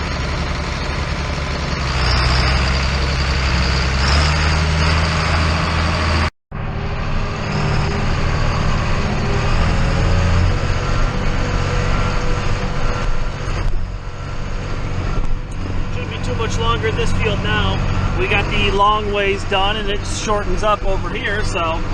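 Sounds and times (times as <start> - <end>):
diesel engine running under load: 0.0 - 21.9.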